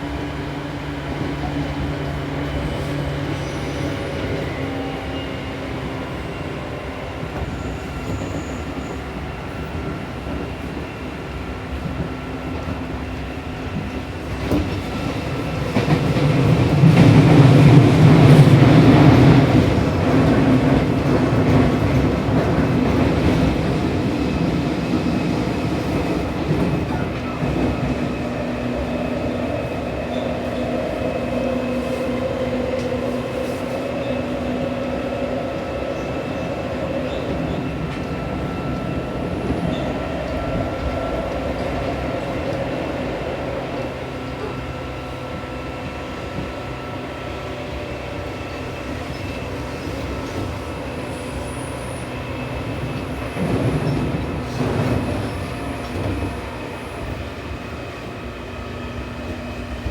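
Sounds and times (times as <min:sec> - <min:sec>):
wheel and rail rumble: 0:00.0 - 0:59.9.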